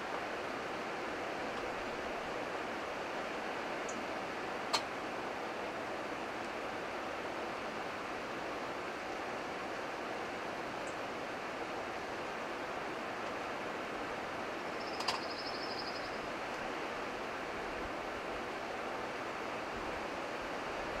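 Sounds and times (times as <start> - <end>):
river water running: 0.0 - 21.0.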